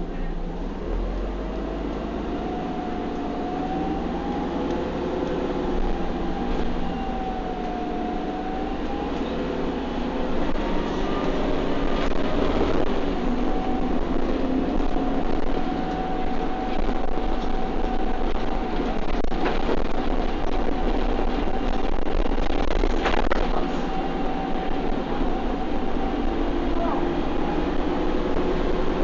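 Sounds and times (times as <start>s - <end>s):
bus engine and road noise: 0.0s - 29.0s
constant whine: 0.0s - 29.0s.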